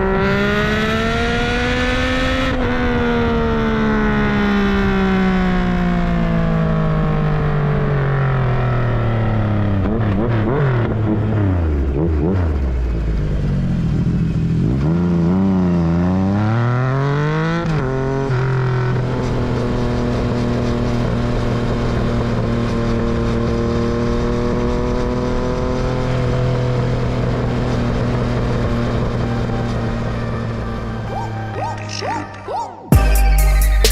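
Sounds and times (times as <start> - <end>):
motorcycle engine revving: 0.0 - 33.1.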